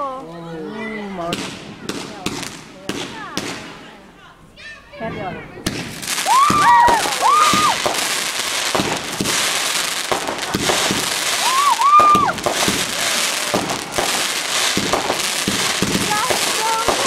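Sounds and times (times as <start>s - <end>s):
fireworks crackling and banging: 1.2s - 4.0s, 5.6s - 17.0s.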